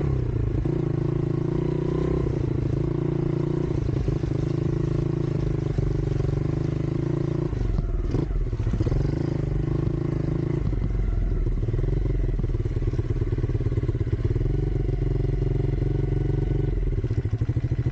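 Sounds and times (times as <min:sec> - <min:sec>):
dirt bike engine running: 0:00.0 - 0:17.9.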